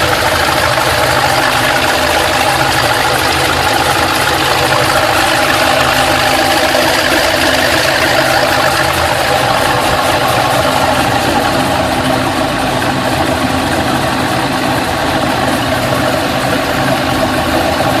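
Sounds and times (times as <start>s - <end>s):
car engine idling: 0.0s - 18.0s
engine ticking: 0.0s - 18.0s.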